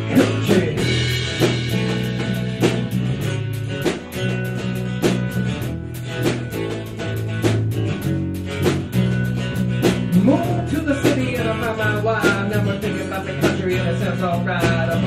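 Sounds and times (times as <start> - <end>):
band song with drums and bass: 0.0 - 15.0.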